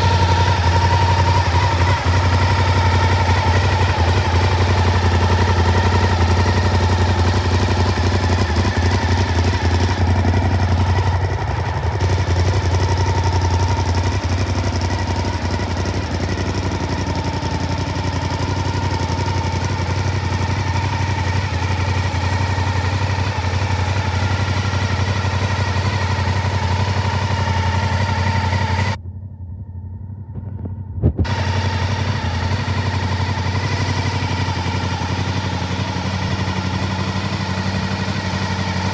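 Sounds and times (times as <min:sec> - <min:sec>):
motorcycle engine idling: 0:00.0 - 0:29.2, 0:31.2 - 0:38.9.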